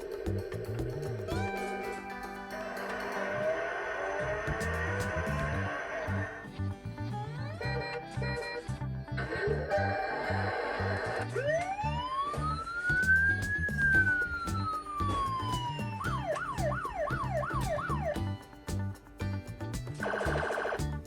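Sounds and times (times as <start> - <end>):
background music with steady beat: 0.0 - 10.0, 11.2 - 21.0.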